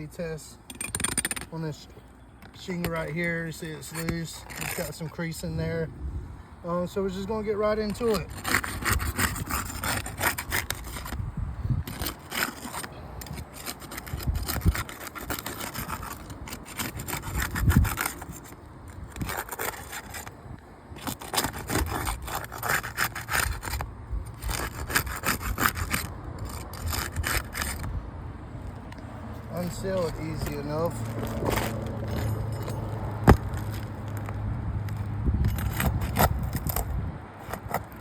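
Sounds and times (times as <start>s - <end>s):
scraping and rubbing roof shingle: 0.0s - 5.9s, 6.7s - 38.0s.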